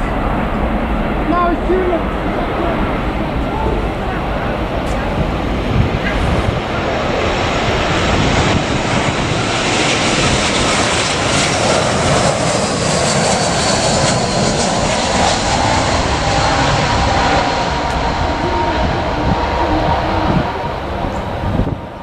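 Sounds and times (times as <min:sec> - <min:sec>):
airliner engines rushing: 0:00.0 - 0:22.0
faint engine whine: 0:00.0 - 0:22.0.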